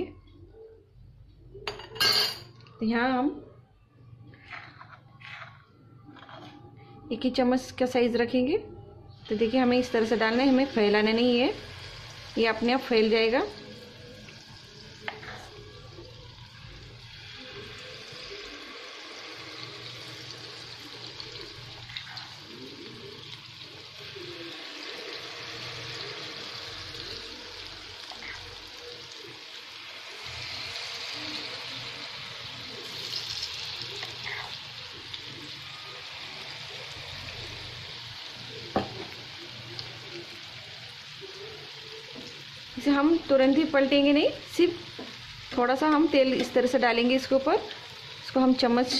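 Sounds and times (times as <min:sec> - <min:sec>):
batter sizzling in hot oil: 0:09.3 - 0:48.9.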